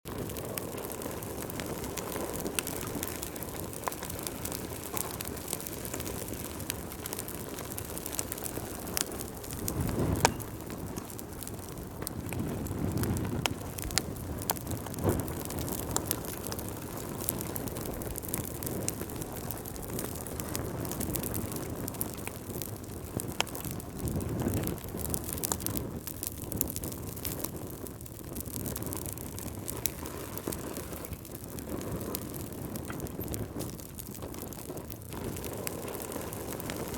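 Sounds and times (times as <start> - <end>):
wood fire crackling and popping: 0.0 - 36.9
low whooshes of flame: 0.1 - 36.9
steady hiss of fire: 0.1 - 36.9.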